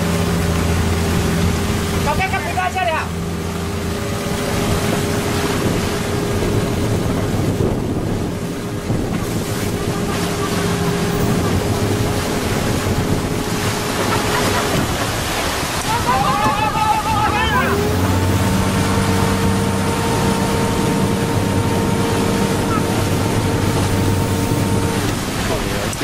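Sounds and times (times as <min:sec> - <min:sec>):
boat engine hum: 0:00.0 - 0:26.0
sea water rushing along hull: 0:00.0 - 0:26.0
wind buffeting microphone: 0:03.0 - 0:26.0.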